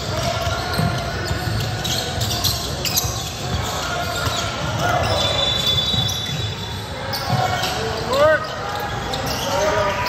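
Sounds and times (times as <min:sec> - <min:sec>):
sneakers squeaking: 0:00.0 - 0:10.0
voices echoing: 0:00.0 - 0:10.0.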